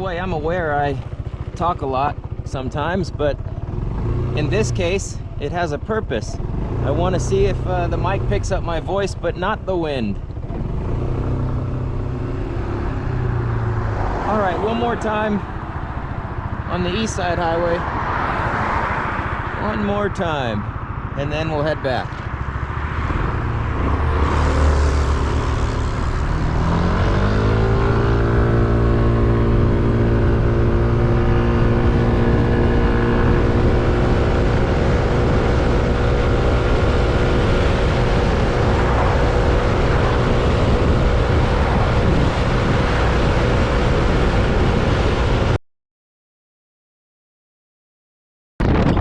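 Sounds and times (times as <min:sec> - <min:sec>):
scooter engine accelerating: 0:00.0 - 0:05.4, 0:06.4 - 0:08.4, 0:10.2 - 0:19.6, 0:20.7 - 0:45.6
wind and road rumble: 0:00.0 - 0:45.6, 0:48.6 - 0:49.0.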